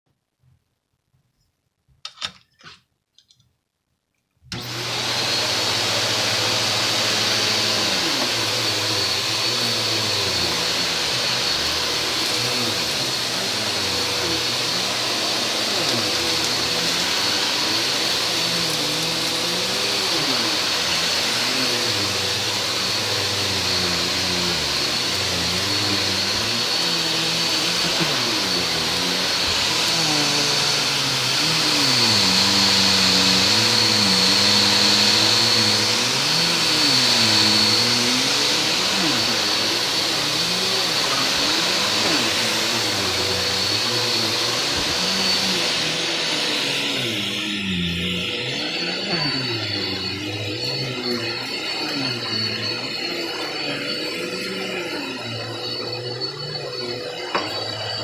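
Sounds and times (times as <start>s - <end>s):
vacuum cleaner running: 4.5s - 58.0s.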